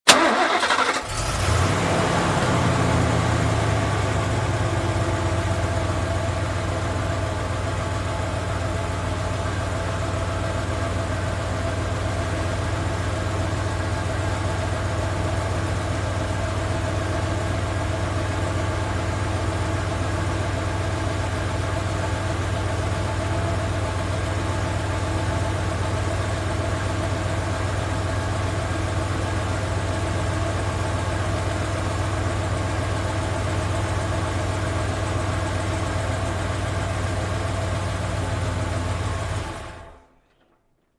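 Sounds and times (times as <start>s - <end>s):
car engine starting and idling: 0.0s - 40.4s.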